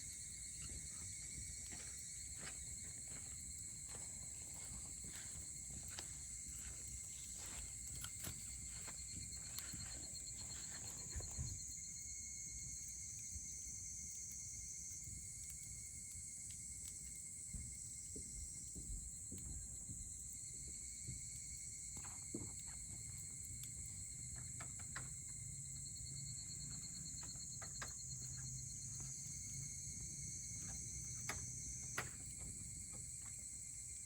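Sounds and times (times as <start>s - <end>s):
campfire crackling: 0.0s - 18.6s, 20.2s - 34.0s
insects trilling: 0.0s - 34.0s.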